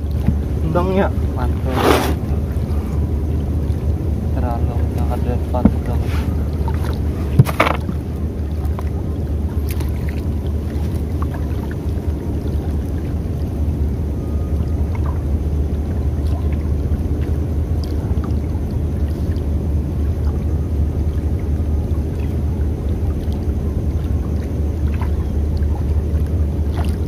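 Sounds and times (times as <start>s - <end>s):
water lapping against boat hull: 0.0s - 27.0s.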